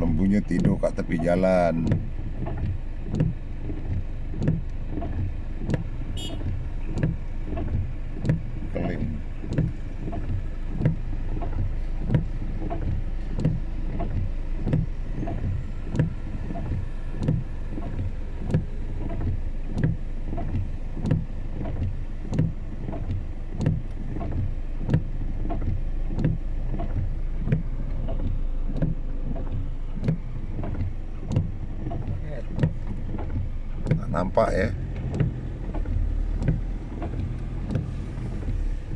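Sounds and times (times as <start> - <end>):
vehicle cabin rumble on wet road: 0.0 - 38.9
windscreen wipers thumping: 0.0 - 38.9.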